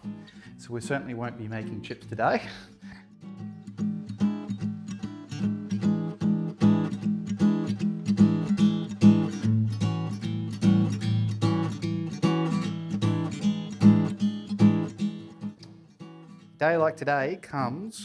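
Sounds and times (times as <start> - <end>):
acoustic guitar picked and strummed: 0.0 - 18.0.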